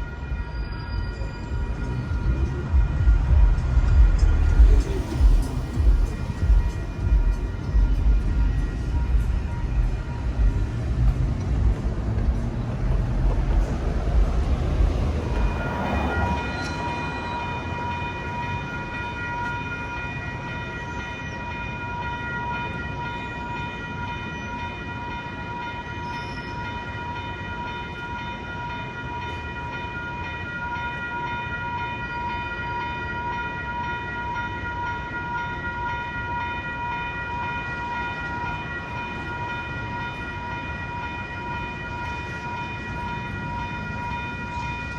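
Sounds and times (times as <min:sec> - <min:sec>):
tram rumbling: 0:00.0 - 0:44.9.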